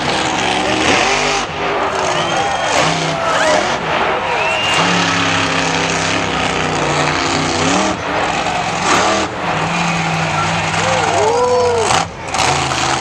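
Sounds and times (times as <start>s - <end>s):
crowd shouts and voices: 0.0s - 13.0s
large crowd noise: 0.0s - 13.0s
monster truck engine revving: 0.0s - 13.0s.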